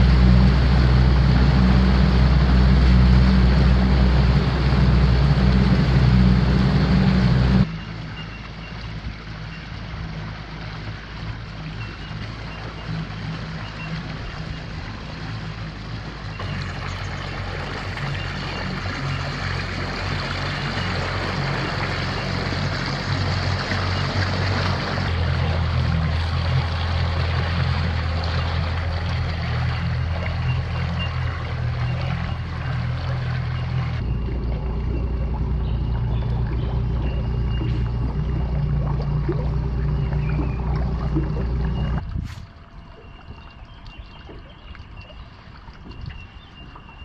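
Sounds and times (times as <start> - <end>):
outboard motor droning: 0.0 - 47.0.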